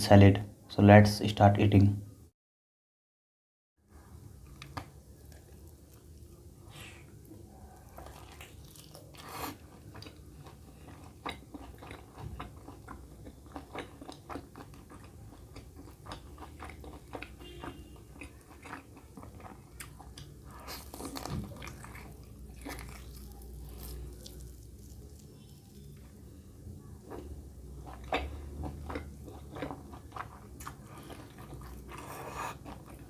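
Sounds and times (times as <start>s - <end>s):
person chewing and crunching food: 4.4s - 26.2s, 27.0s - 33.0s.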